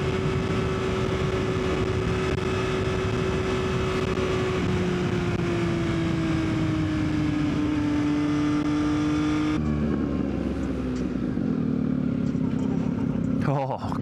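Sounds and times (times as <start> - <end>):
motorcycle engine decelerating: 0.0 - 14.0.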